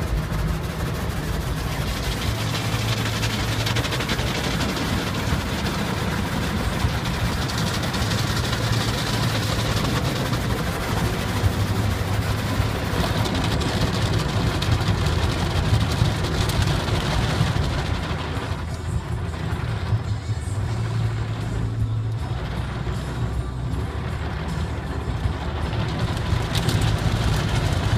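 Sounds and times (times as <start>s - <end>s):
water jets spraying against car: 0.0s - 27.9s.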